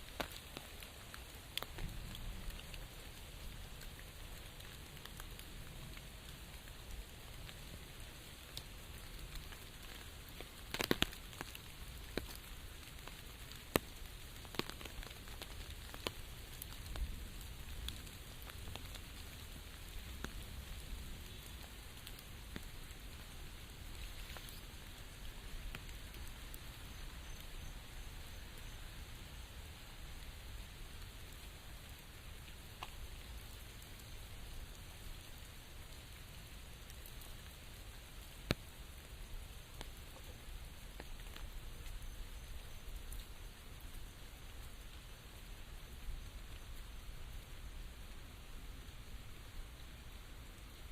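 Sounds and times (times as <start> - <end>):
raindrops ticking: 0.0 - 50.9
steady rain falling: 0.0 - 50.9.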